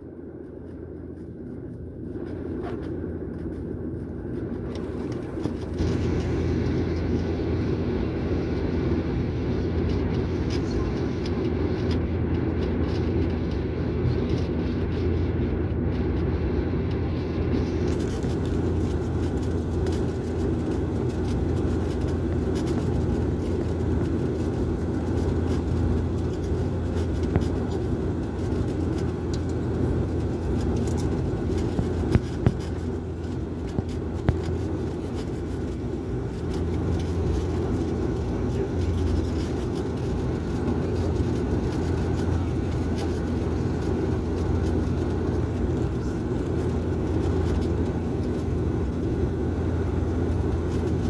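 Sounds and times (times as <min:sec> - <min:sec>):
airliner cabin rumble: 0:00.0 - 0:51.0
steady hum: 0:00.0 - 0:51.0.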